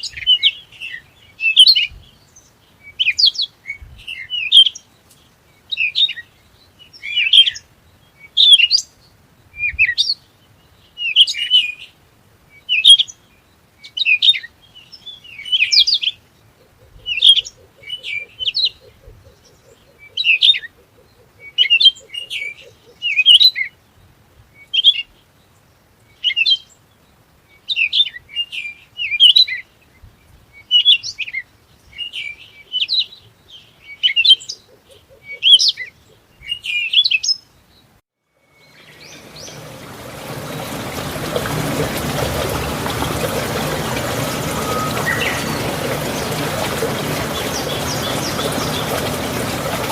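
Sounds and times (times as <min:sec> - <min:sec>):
small songbirds chirping: 0:00.0 - 0:49.9.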